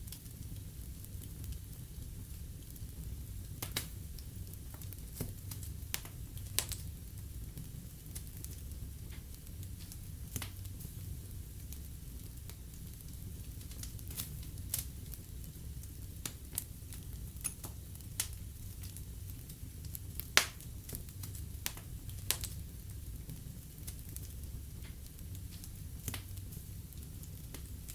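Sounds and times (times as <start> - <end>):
fire crackling in fireplace: 0.0 - 27.9.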